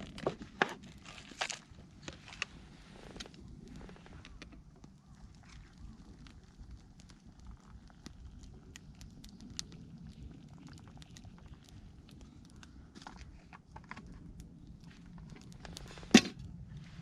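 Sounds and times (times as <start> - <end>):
campfire crackling and popping: 0.0 - 17.0
low steady rumble: 0.0 - 17.0.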